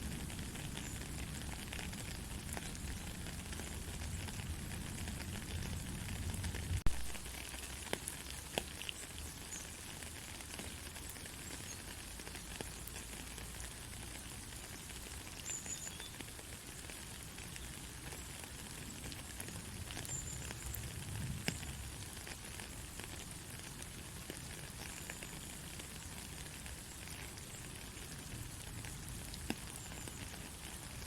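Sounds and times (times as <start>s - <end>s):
gentle rain falling: 0.0s - 31.0s.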